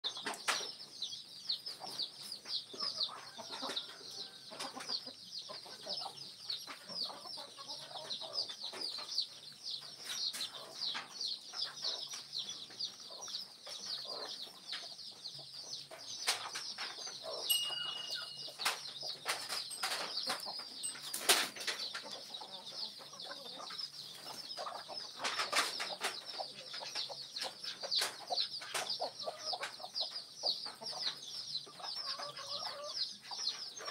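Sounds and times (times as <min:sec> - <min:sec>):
animals pecking and rooting: 0:00.0 - 0:33.9
hen clucking: 0:00.0 - 0:33.9.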